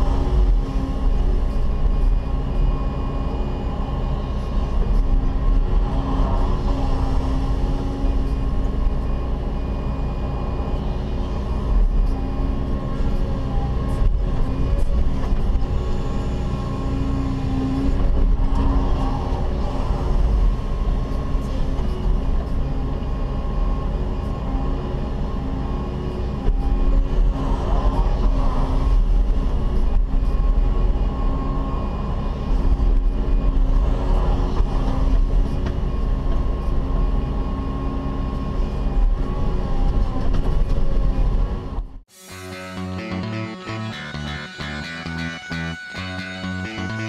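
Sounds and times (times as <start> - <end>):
diesel engine drone: 0.0 - 47.0.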